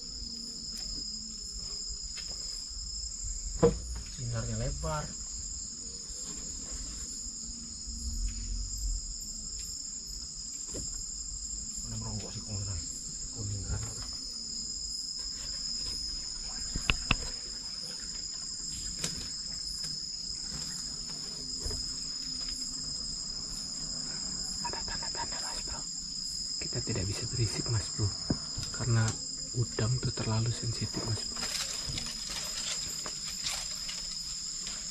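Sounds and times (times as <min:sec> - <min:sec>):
night insects trilling: 0:00.0 - 0:34.9.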